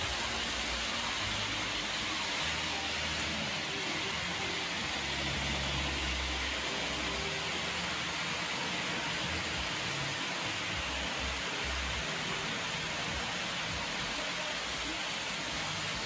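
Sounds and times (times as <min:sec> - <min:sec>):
model trains rolling hiss: 0:00.0 - 0:16.0.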